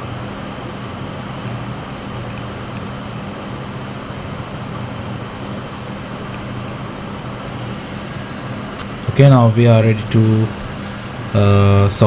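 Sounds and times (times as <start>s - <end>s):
low hum: 0.0s - 12.0s
small electric fan whirring: 0.0s - 12.0s.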